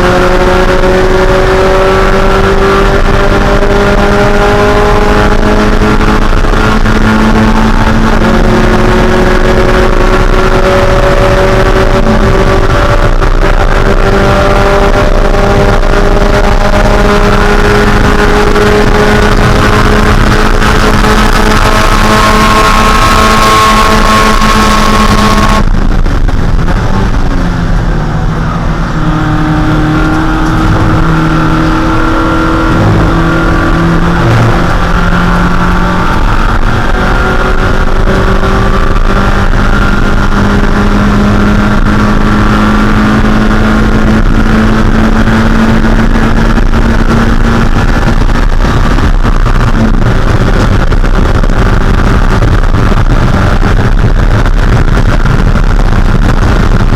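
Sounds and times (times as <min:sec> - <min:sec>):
race car engine running hard: 0:00.0 - 0:56.9.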